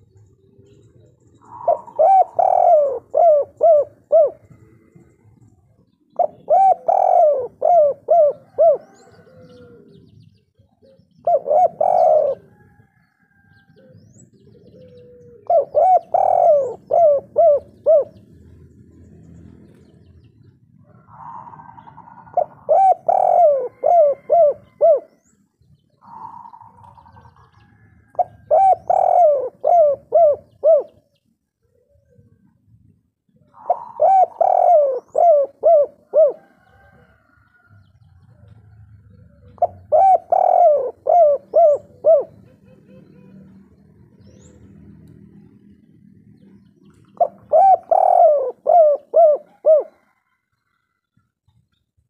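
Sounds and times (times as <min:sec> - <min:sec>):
dove cooing: 0:00.0 - 0:18.9, 0:19.6 - 0:51.0.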